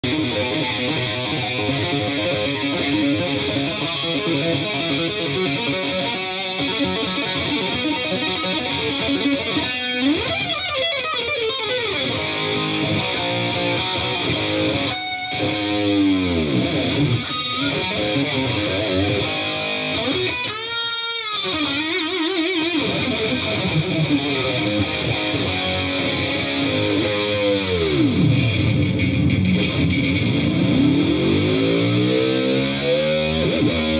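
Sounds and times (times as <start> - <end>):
electric guitar with pitch dives: 0.0 - 33.9.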